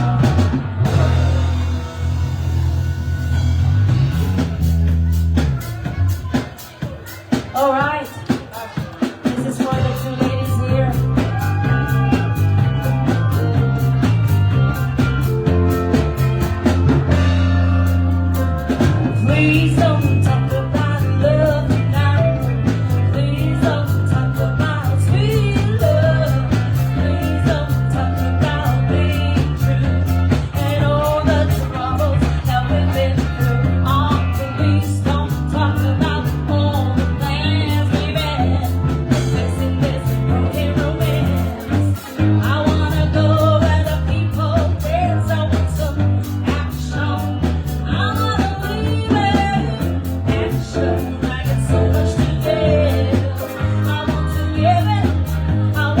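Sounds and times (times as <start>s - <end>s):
person singing: 0.0s - 1.8s, 4.9s - 56.0s
bass: 0.0s - 56.0s
drums: 0.0s - 56.0s
guitar: 0.0s - 56.0s.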